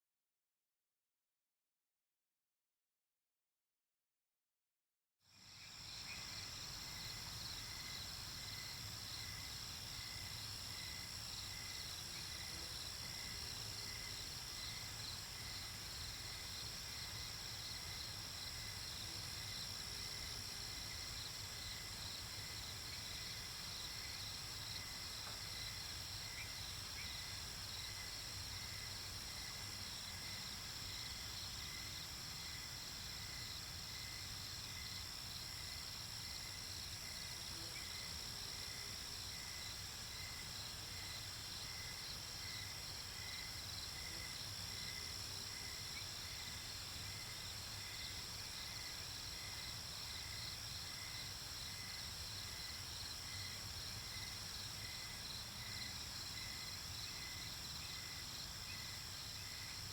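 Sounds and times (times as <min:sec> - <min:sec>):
crickets and insects chirping: 0:05.3 - 0:59.9.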